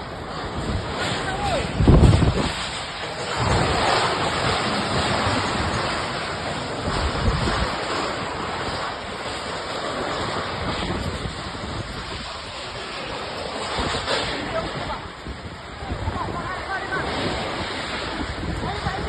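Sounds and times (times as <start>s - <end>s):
gusting wind buffeting microphone: 0.0s - 19.0s.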